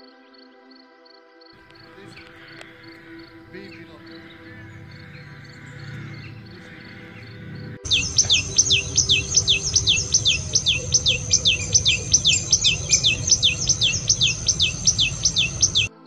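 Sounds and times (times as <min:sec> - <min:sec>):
bird singing sharp descending notes: 0:01.7 - 0:16.0.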